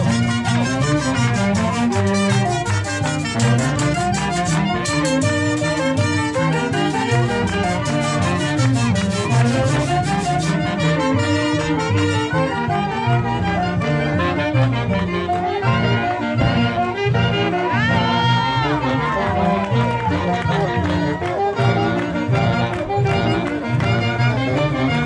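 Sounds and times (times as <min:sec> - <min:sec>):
brass band dance music: 0:00.0 - 0:25.0.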